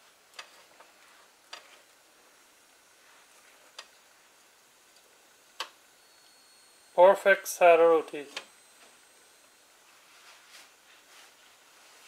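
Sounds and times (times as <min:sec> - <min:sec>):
faint hiss of bread toasting: 0:00.0 - 0:12.0.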